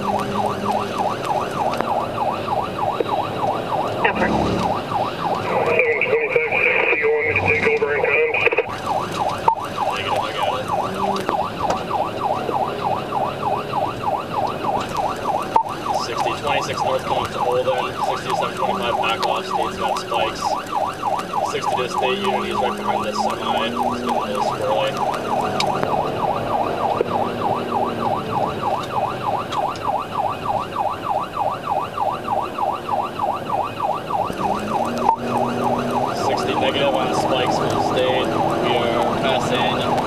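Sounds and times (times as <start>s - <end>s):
police siren yelping: 0.0s - 40.0s.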